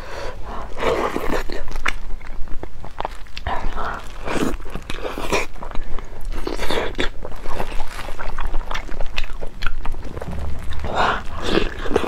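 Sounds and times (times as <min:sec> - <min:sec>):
close chewing: 0:00.0 - 0:12.0.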